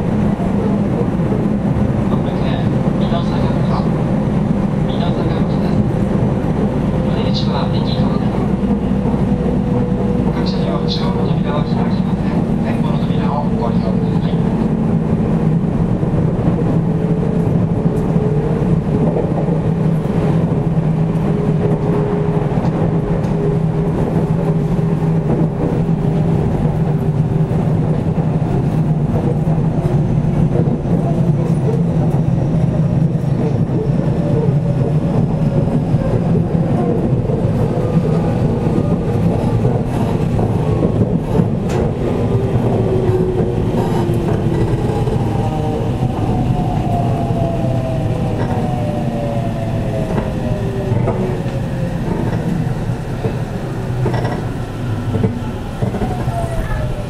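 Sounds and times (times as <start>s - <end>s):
train rumbling at speed: 0.0s - 57.0s.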